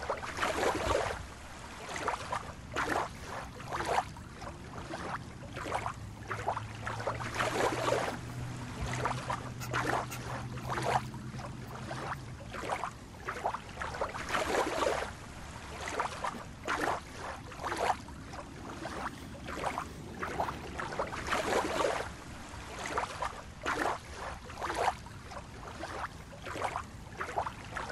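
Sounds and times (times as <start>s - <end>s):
waves lapping on pebbly shore: 0.0s - 27.9s.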